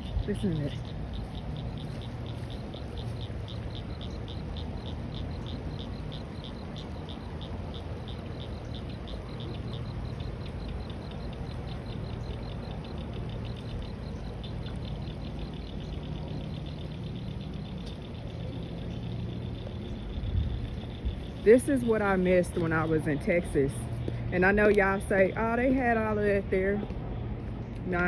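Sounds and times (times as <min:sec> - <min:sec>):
cricket chirping: 0:00.0 - 0:24.1.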